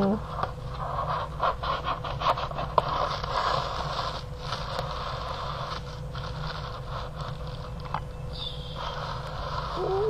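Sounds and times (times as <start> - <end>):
crinkly wrapping rustling: 0.2 - 10.0.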